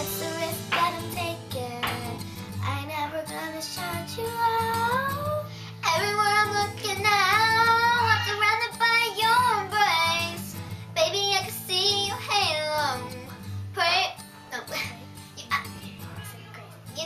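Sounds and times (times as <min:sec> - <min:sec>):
girl singing unaccompanied: 0:00.0 - 0:15.8.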